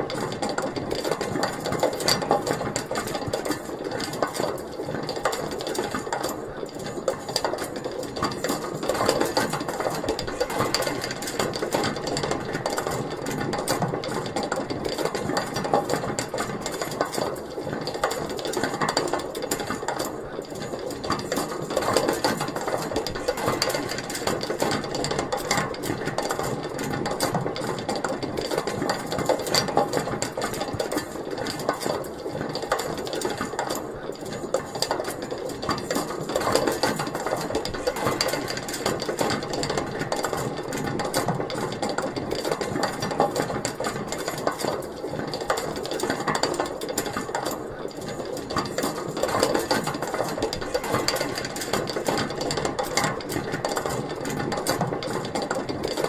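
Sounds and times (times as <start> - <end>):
pulley wheel rattling: 0.0 - 56.0.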